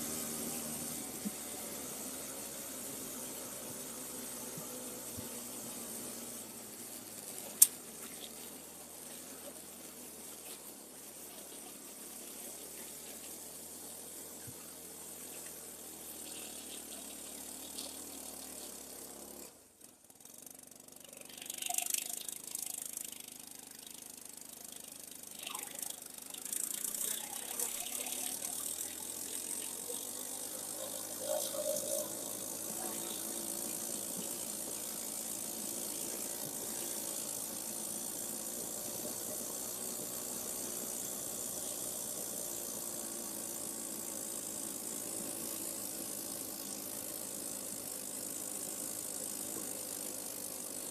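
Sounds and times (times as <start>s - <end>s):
snowmobile engine running: 0.0s - 20.1s, 20.7s - 50.9s.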